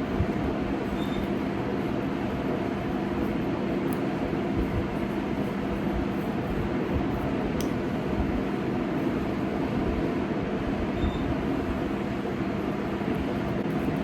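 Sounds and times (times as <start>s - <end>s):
mechanical hum with rushing: 0.0s - 14.0s.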